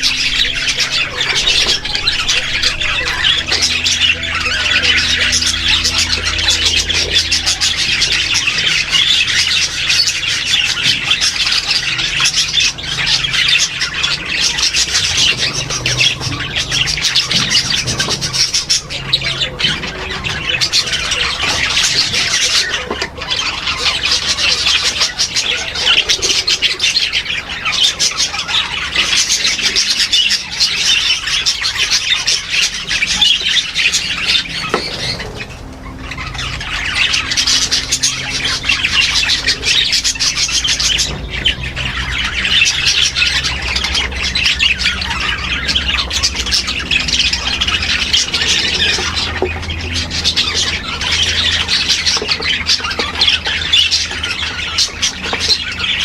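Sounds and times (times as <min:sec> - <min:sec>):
birds chattering and squawking: 0:00.0 - 0:56.0.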